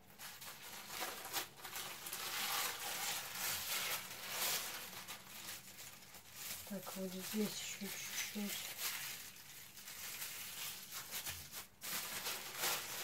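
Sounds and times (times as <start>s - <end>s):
plastic film rustling and crinkling: 0.0s - 13.0s.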